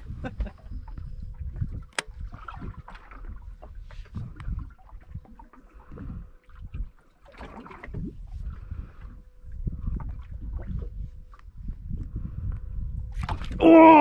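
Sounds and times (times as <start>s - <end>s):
water lapping: 0.0s - 11.6s
faint steady hum: 0.0s - 14.0s
wind buffeting microphone: 0.0s - 14.0s.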